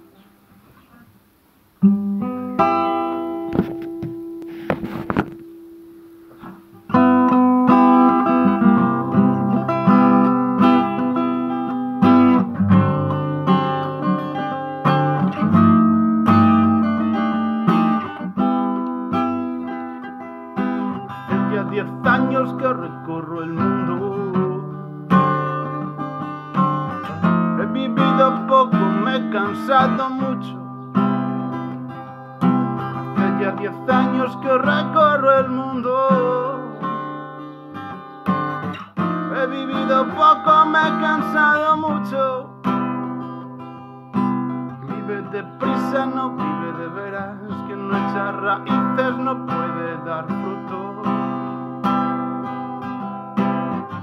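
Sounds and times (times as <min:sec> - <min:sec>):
acoustic guitar strumming: 0:01.6 - 0:54.0.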